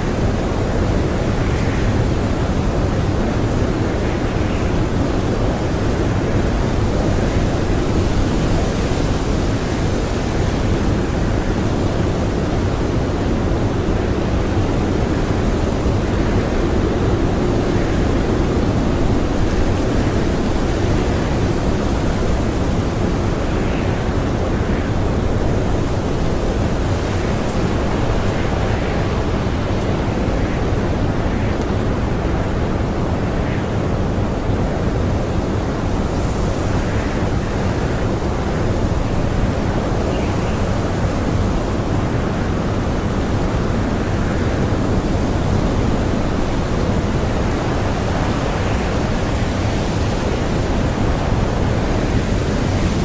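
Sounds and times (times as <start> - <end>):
blizzard wind blowing: 0.0 - 53.0.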